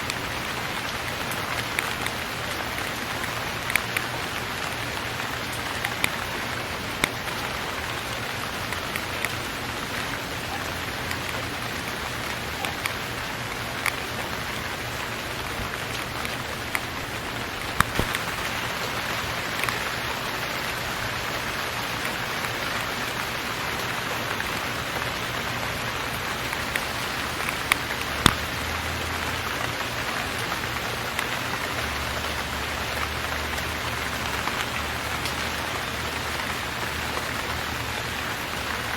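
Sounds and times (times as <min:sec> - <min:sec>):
raindrops clicking close by: 0:00.0 - 0:38.9
steady rain: 0:00.0 - 0:38.9.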